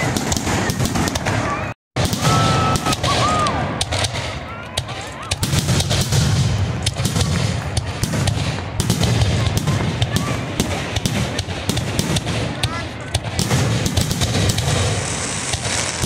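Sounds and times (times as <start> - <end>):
firework shells bursting: 2.0 - 16.0.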